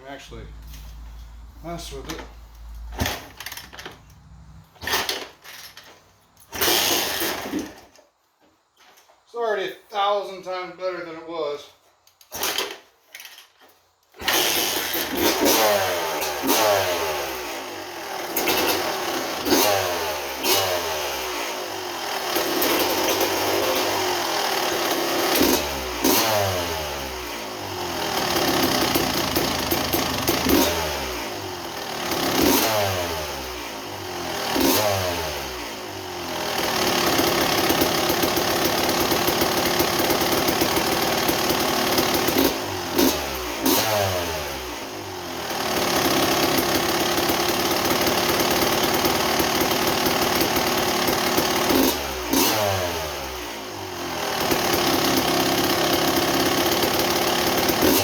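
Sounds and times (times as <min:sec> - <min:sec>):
two-stroke engine revving: 0:02.8 - 0:05.4, 0:06.5 - 0:07.9, 0:14.2 - 0:58.0.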